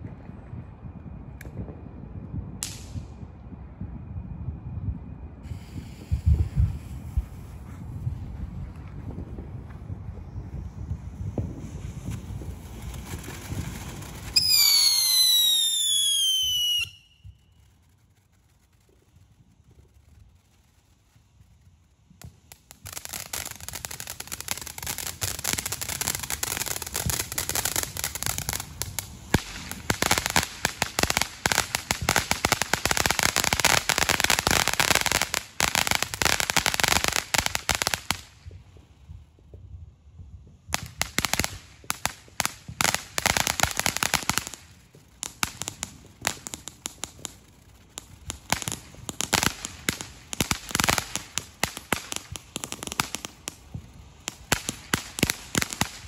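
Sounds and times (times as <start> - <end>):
fireworks crackling: 2.4 - 3.4, 5.2 - 56.0.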